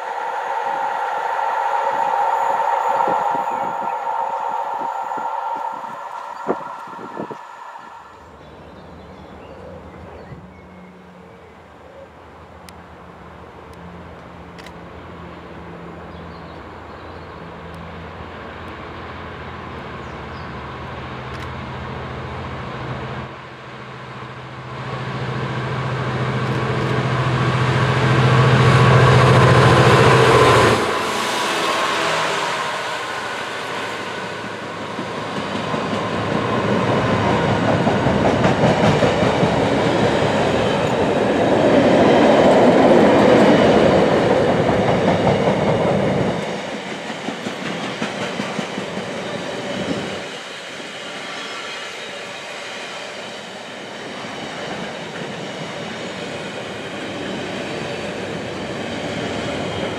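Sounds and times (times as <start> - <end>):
train rumble and clatter: 0.0 - 11.7, 12.3 - 59.9
diesel locomotive engine: 0.0 - 59.9.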